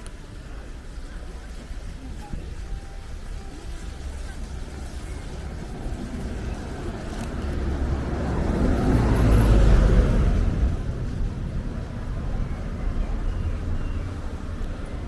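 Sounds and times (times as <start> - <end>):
road vehicle passing by: 0.0 - 15.0.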